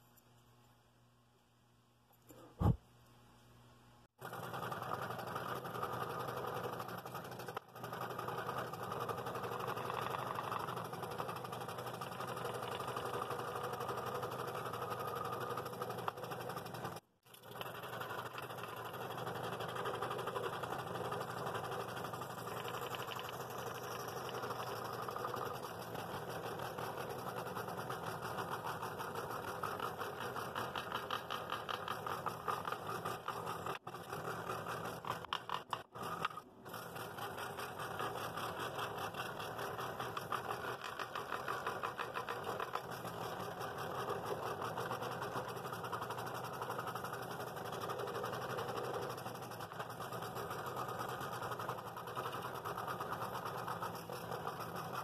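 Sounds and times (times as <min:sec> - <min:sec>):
scroll saw cutting wood: 0:04.2 - 0:55.0.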